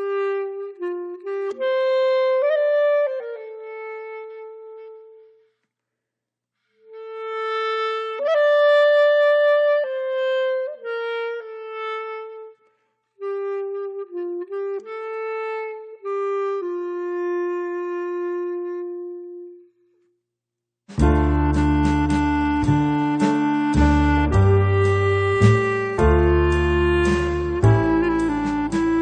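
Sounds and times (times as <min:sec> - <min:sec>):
slow woodwind melody: 0:00.0 - 0:05.5, 0:06.8 - 0:19.9, 0:21.0 - 0:29.0.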